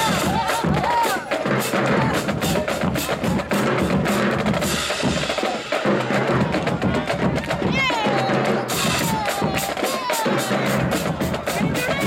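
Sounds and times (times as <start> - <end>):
bass drums: 0.0 - 12.0
snare drums: 0.0 - 12.0.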